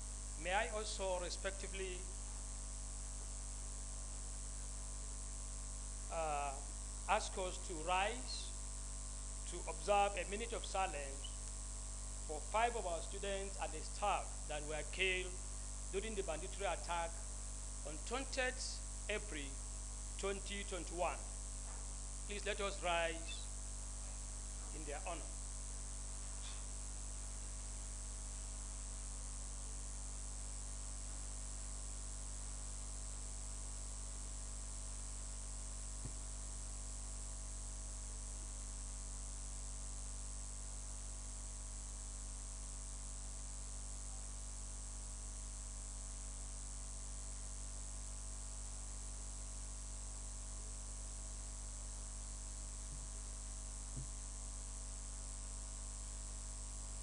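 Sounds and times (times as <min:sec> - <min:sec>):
high whine and hiss: 0:00.0 - 0:57.0
mains hum and buzz: 0:00.0 - 0:57.0.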